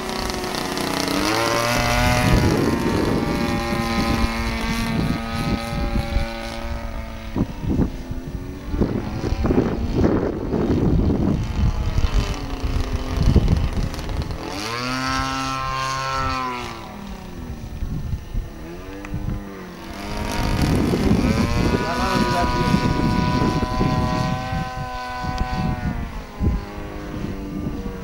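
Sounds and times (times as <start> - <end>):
model airplane engine whine: 0.0 - 28.0
wind buffeting microphone: 0.0 - 28.0.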